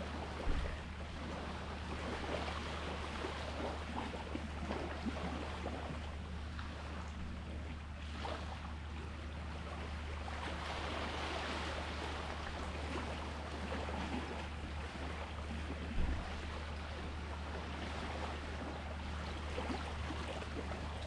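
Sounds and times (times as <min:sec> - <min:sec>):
sea waves on shore: 0:00.0 - 0:08.6, 0:09.4 - 0:21.0
steady low hum: 0:00.0 - 0:21.0.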